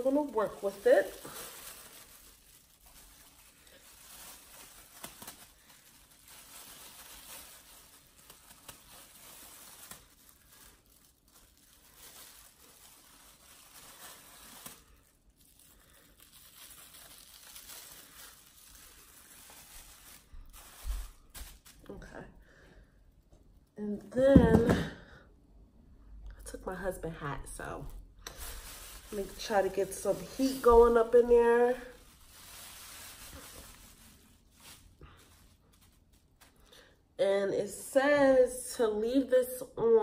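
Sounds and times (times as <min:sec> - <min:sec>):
plastic bag crinkling: 0:00.0 - 0:23.8, 0:27.5 - 0:37.0.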